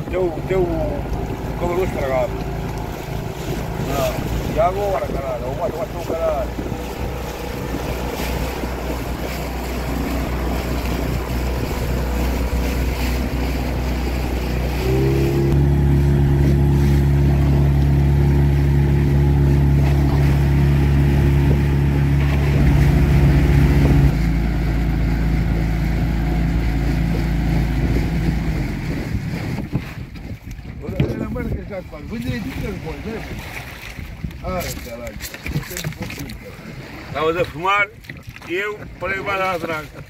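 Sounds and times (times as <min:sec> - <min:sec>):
outboard motor running: 0:00.0 - 0:40.0
water rushing past hull: 0:00.0 - 0:40.0.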